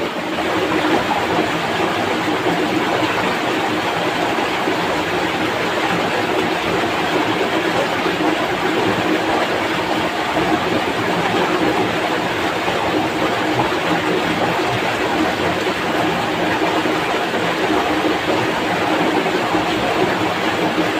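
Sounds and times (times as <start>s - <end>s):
stream rushing over rocks: 0.0s - 20.9s.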